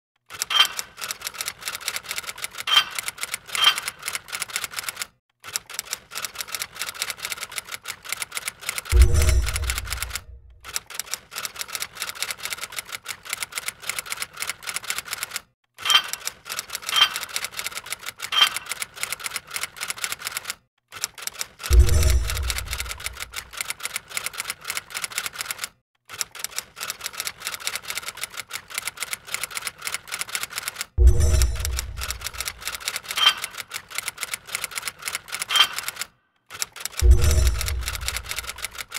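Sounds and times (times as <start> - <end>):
rapid mechanical clicking: 0.2 - 38.9.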